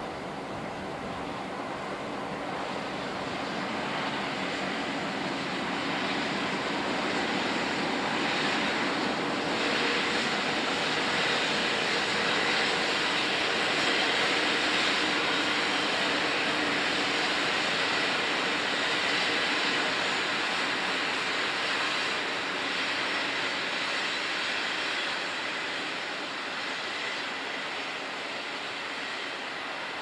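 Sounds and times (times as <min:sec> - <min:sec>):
diesel locomotive engine: 0:00.0 - 0:30.0
wheel and rail noise: 0:00.0 - 0:30.0.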